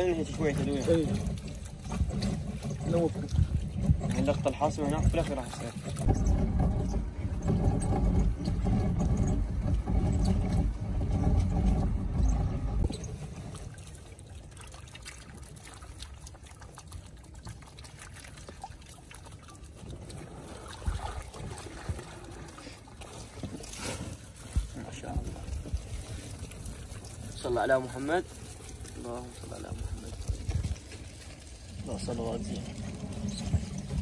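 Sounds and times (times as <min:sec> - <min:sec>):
water pouring and dripping: 0:00.0 - 0:34.0.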